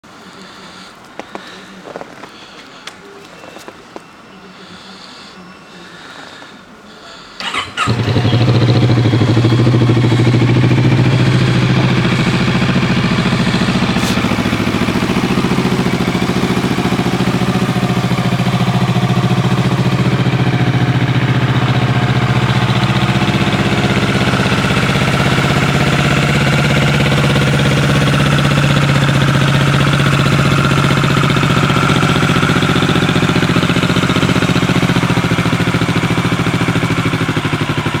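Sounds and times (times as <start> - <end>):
motorcycle engine idling: 7.4 - 38.0.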